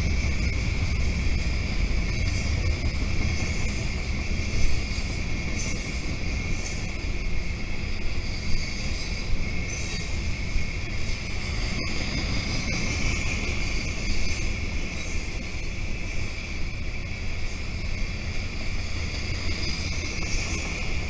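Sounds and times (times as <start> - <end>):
high-pitched whine: 0.0 - 21.0
train wheels rumbling on track: 0.0 - 21.0.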